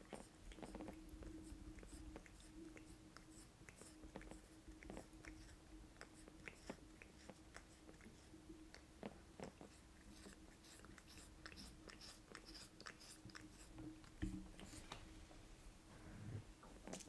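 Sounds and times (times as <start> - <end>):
nails scratching through cat fur: 0.0 - 8.4, 9.4 - 15.0.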